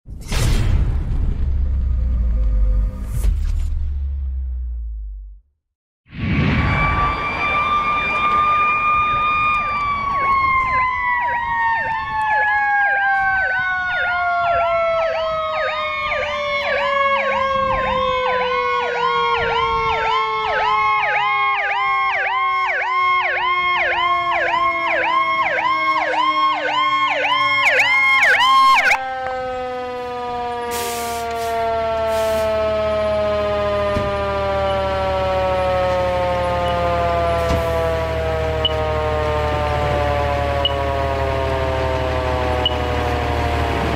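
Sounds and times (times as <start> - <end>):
siren wailing: 6.1 - 43.9
warbling siren: 6.1 - 43.9.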